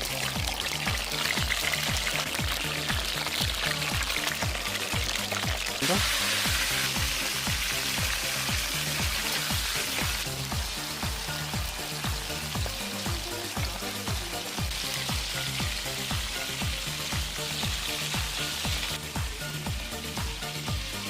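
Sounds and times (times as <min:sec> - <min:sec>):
background music with thudding beat: 0:00.0 - 0:21.0
fish sizzling in a frying pan: 0:00.0 - 0:21.0.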